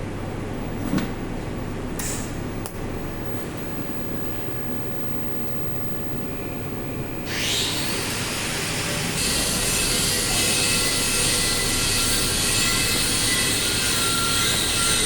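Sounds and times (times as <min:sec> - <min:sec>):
welding arc hissing: 0:02.8 - 0:15.0.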